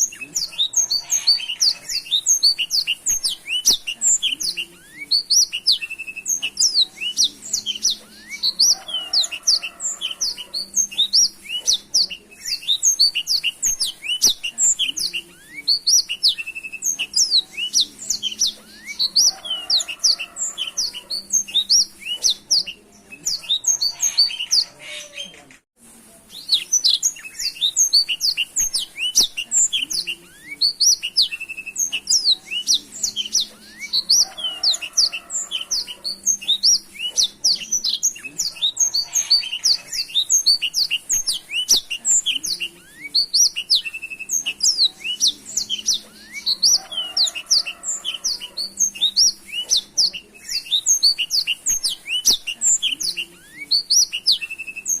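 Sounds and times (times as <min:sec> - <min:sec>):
canary singing: 0:00.0 - 0:25.6, 0:26.3 - 0:55.0.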